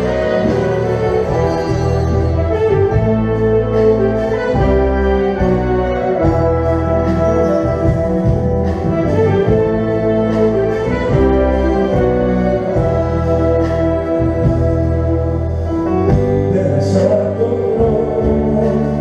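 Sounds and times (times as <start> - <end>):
wind band playing chords: 0.0 - 19.0.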